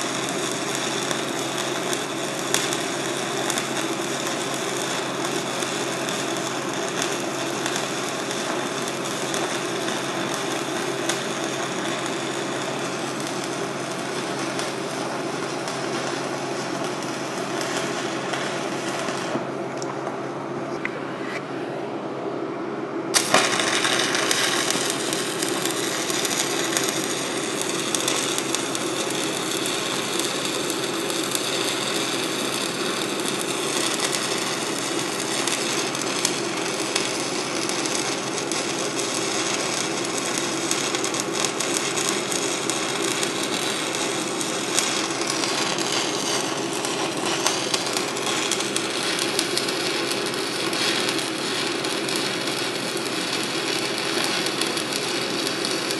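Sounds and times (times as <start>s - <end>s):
welding arc crack: 0.0s - 19.5s, 23.1s - 55.9s
welding arc crackling: 0.0s - 19.6s, 23.1s - 55.9s
steady hum: 0.0s - 55.9s.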